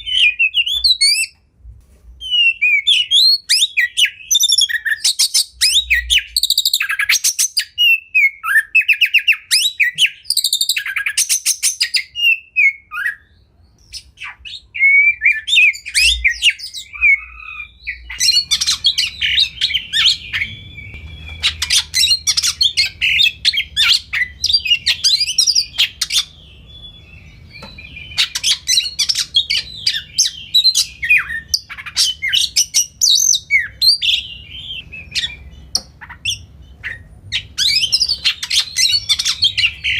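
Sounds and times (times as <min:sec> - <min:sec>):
magpie-robin singing: 0:00.0 - 0:01.4, 0:02.2 - 0:39.9.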